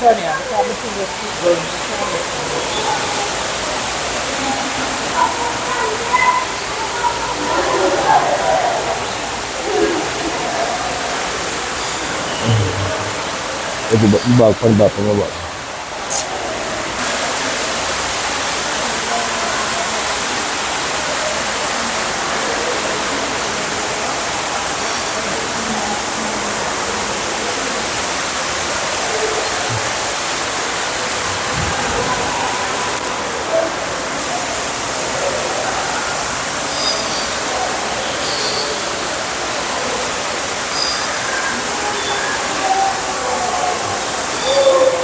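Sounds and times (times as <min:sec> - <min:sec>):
faint indistinct voices: 0:00.0 - 0:45.0
falling water rushing: 0:00.0 - 0:45.0.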